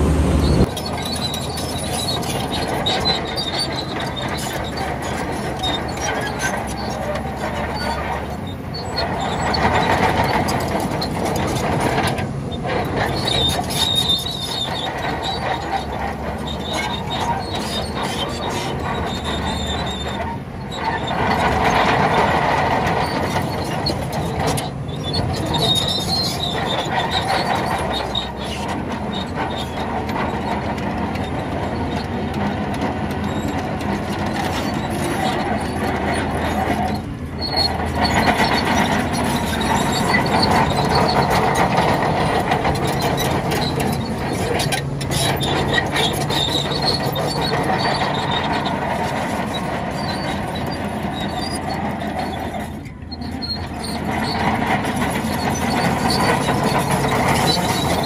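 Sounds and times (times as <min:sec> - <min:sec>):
bulldozer diesel engine: 0:00.0 - 0:58.0
steel tracks squealing and clanking: 0:00.0 - 0:58.0.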